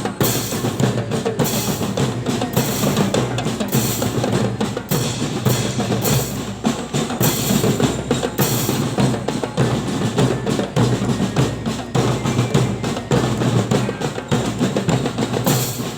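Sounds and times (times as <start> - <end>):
fast drumming: 0.0 - 15.9.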